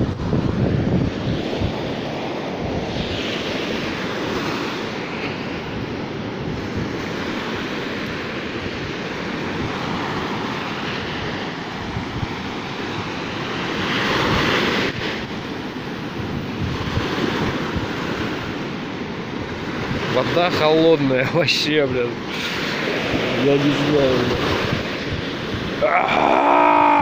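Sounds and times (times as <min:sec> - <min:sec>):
sea waves washing ashore: 0:00.0 - 0:27.0
wind on microphone: 0:00.0 - 0:27.0.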